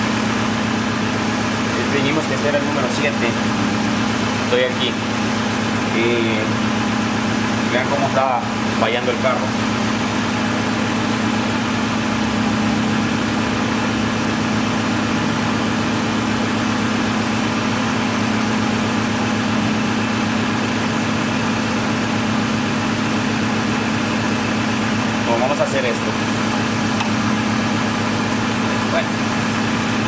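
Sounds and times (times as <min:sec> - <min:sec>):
car engine idling with misfire: 0:00.0 - 0:30.0.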